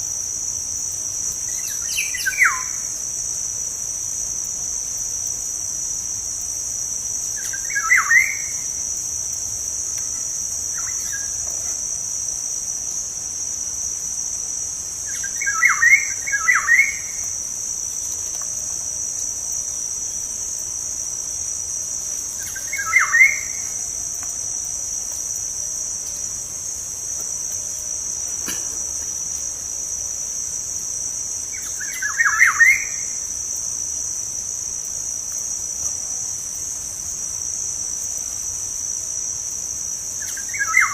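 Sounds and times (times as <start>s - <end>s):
high insect trill: 0.0s - 40.9s.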